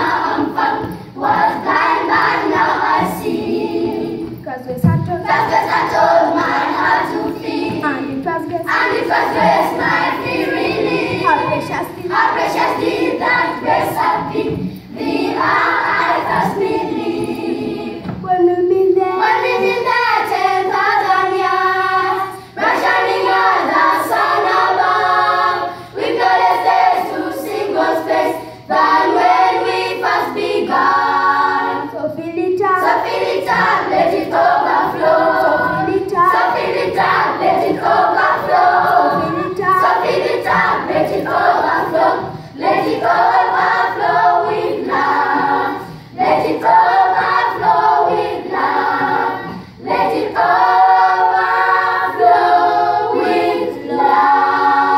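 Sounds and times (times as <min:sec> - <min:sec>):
children's choir singing: 0:00.0 - 0:54.9.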